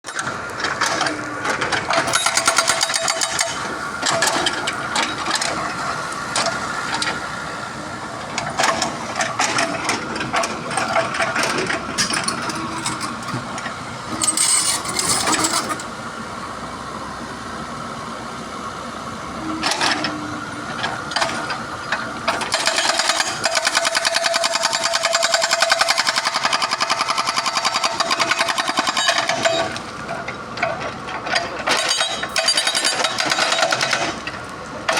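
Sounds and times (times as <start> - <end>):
excavator engine running: 0.1 - 34.9.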